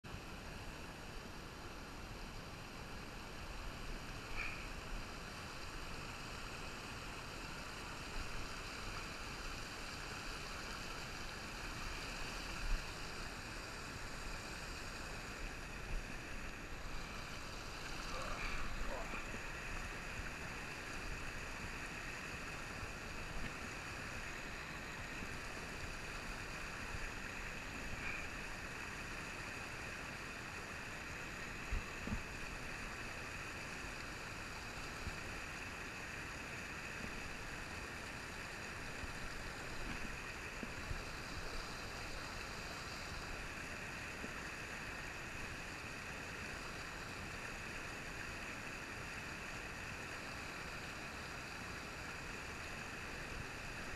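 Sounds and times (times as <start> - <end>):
stream rapids rushing: 0.1 - 53.9.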